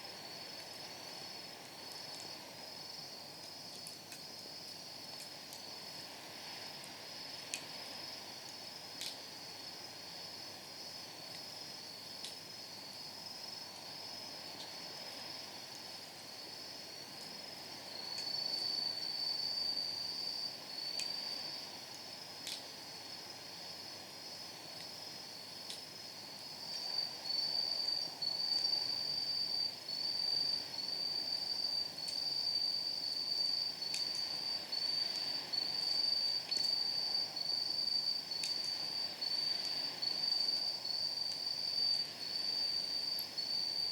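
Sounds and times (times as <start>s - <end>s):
night insects trilling: 0.0s - 43.9s.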